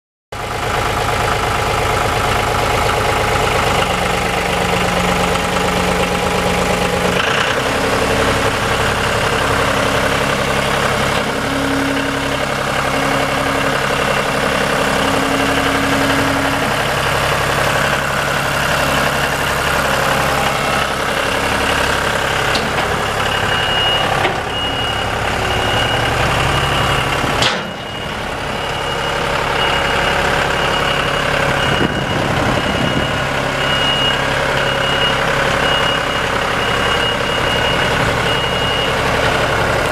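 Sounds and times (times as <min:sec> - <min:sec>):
tractor diesel engine idling: 0:00.3 - 0:39.9.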